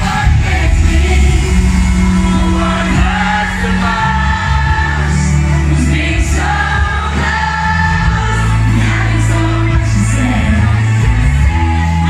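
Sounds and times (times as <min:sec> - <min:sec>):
eurodance song over loudspeakers: 0:00.0 - 0:12.0
synth bass: 0:00.0 - 0:12.0.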